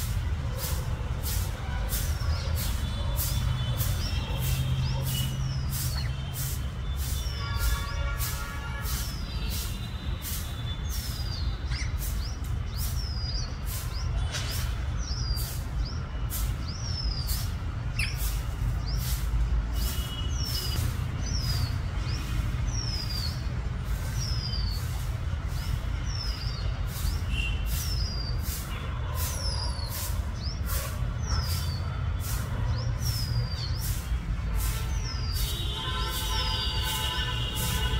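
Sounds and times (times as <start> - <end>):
bird chirping: 0.0 - 37.9.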